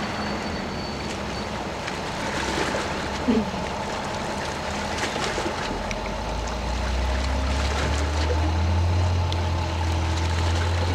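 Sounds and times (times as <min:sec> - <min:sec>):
ferry engines droning: 0:00.0 - 0:10.9
water and wind hiss: 0:00.0 - 0:10.9.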